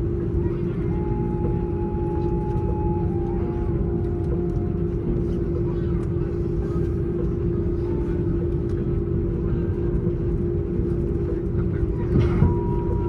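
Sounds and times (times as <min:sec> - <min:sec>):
airplane cabin rumble: 0:00.0 - 0:13.0
constant low hum: 0:00.0 - 0:13.0.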